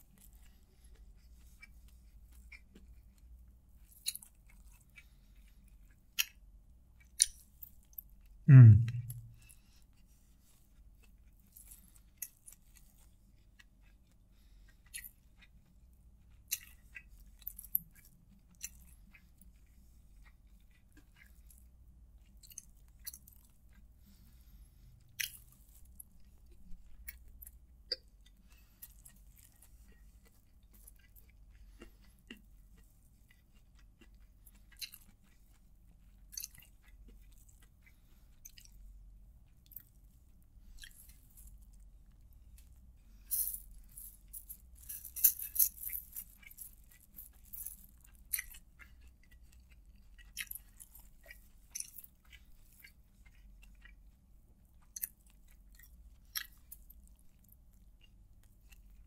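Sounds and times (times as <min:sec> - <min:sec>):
close-miked chewing: 0:00.0 - 0:59.0.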